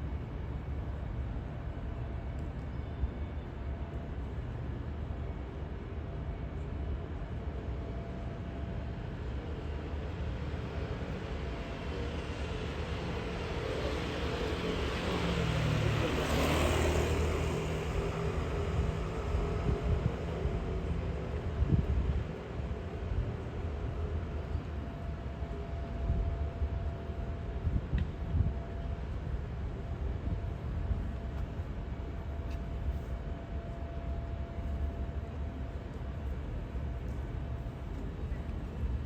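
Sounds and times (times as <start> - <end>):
city traffic noise: 0.0 - 39.0.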